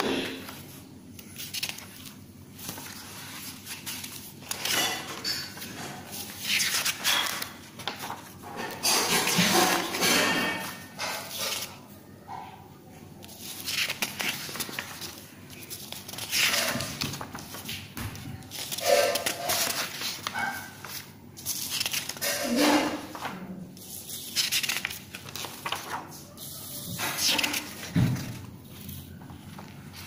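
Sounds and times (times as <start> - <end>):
paper pages rustling: 0.1 - 11.8, 13.2 - 30.0.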